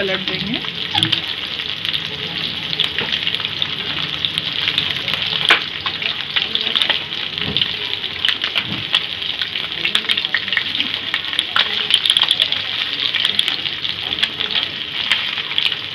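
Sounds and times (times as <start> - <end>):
fish frying in hot oil: 0.0 - 15.9.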